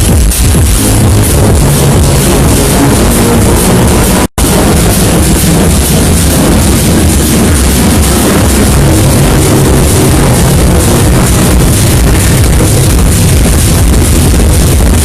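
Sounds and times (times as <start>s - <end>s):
electronic dance music with heavy bass: 0.0s - 15.0s.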